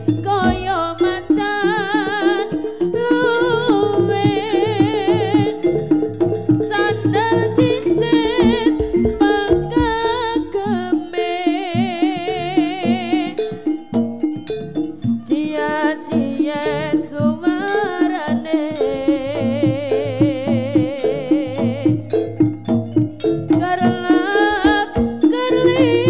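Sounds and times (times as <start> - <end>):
drum and gong percussion: 0.0 - 26.0
wavering high melody: 0.0 - 26.0.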